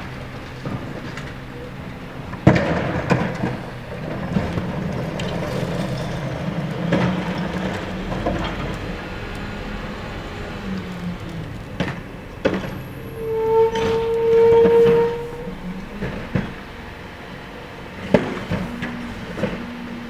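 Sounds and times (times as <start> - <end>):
garbage truck engine running: 0.0 - 20.0.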